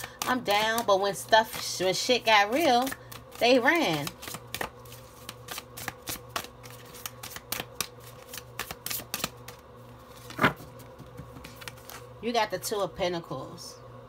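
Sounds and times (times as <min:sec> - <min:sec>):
cards shuffled by hand: 0:00.0 - 0:12.1.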